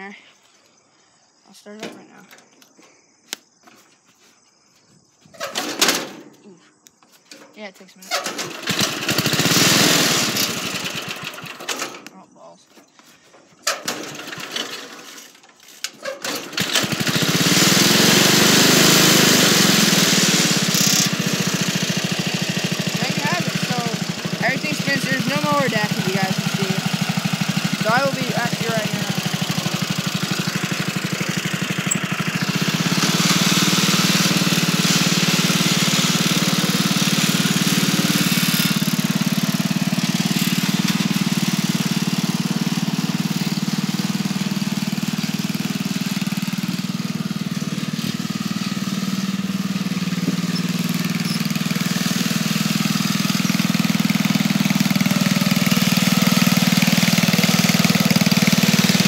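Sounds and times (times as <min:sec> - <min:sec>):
riding lawnmower engine running: 0:05.2 - 0:59.0.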